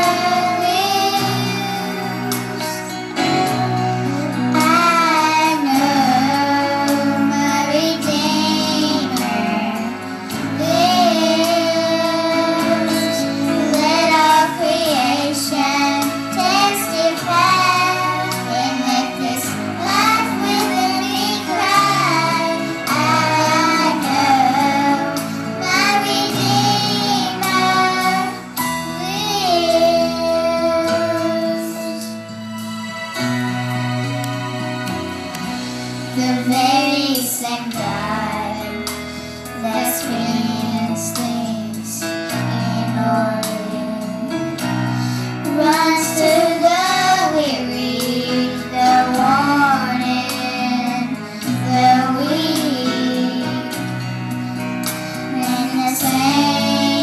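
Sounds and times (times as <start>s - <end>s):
girls singing into microphones: 0.0s - 32.2s, 36.2s - 54.2s, 54.8s - 57.0s
instrumental accompaniment: 0.0s - 57.0s.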